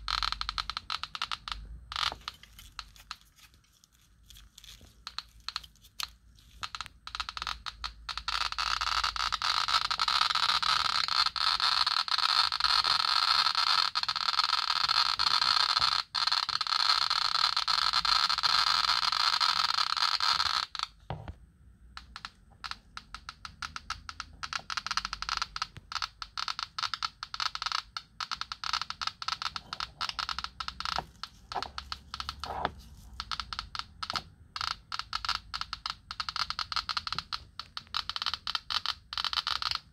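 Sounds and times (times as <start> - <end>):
geiger counter clicking rapidly: 0.0 - 3.2, 5.0 - 20.9, 22.0 - 39.9.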